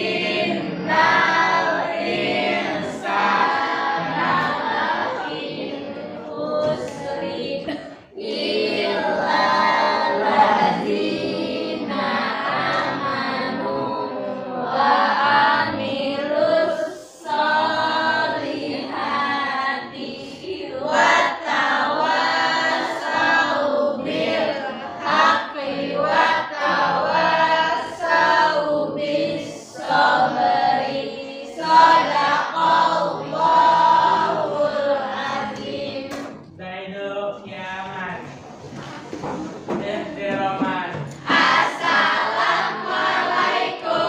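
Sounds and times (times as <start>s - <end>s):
children chanting a prayer: 0.0s - 44.0s.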